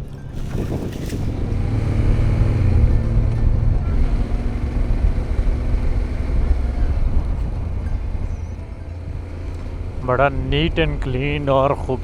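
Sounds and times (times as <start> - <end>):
wind noise on microphone: 0.0 - 11.2
motorcycle engine rumbling: 0.0 - 12.0.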